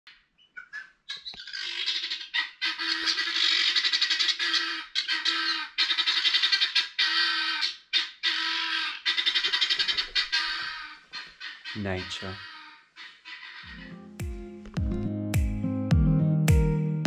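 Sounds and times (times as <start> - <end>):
birds squawking and chattering: 0.1 - 14.0.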